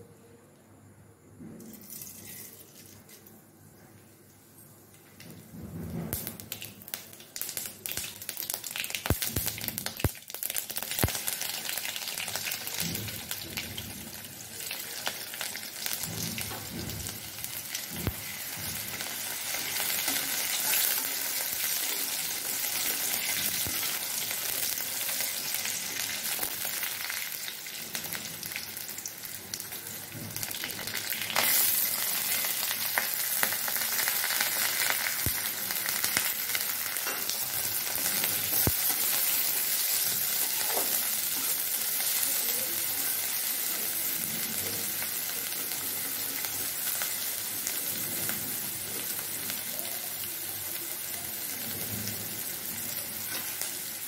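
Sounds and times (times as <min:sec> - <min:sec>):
garlic sizzling in hot oil: 0:05.9 - 0:54.0.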